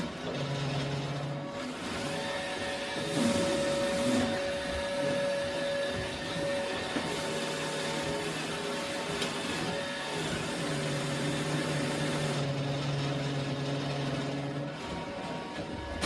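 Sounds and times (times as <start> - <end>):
robot vacuum motor hum: 0.0 - 16.0.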